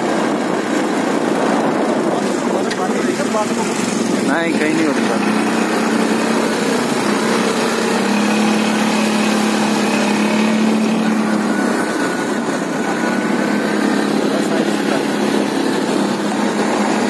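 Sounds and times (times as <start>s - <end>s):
atv engine running: 0.0s - 17.0s
rushing noise: 0.0s - 17.0s.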